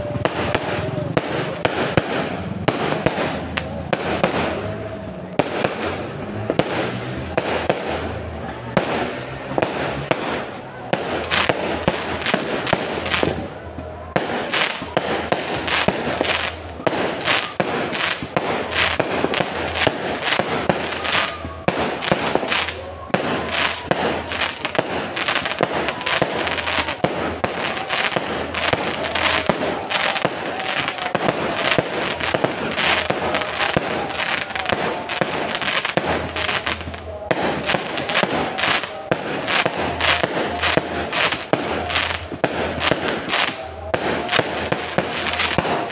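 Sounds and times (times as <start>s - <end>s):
fireworks banging and crackling: 0.0s - 45.9s.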